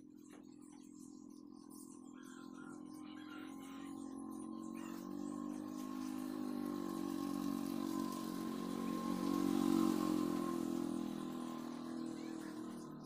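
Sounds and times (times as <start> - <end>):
motor engine humming: 0.3 - 13.0.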